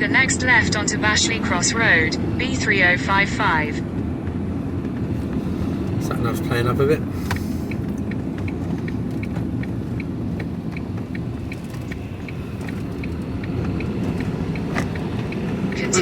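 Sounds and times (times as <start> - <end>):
turn indicator ticking: 0.0 - 16.0
van engine and road rumble: 0.0 - 16.0.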